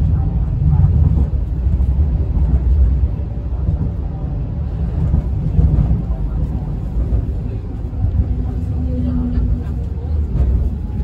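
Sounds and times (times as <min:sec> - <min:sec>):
tram low rumble: 0:00.0 - 0:11.0.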